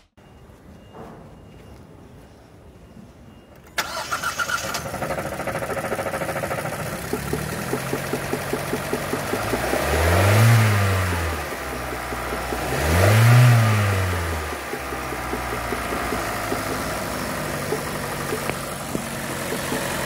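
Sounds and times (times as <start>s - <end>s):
car engine cranking and starting: 3.7s - 20.0s
car engine idling: 3.8s - 20.0s
car engine revving: 3.9s - 20.0s.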